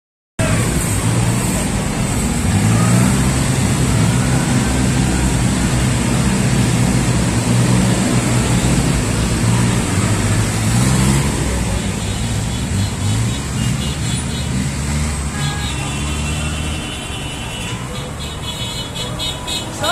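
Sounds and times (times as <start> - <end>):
traffic engines and road noise: 0.4 - 19.9.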